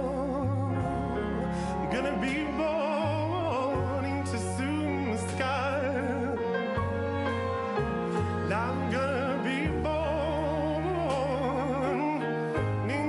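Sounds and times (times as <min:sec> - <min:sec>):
person singing with vibrato: 0:00.0 - 0:06.9, 0:08.1 - 0:13.0.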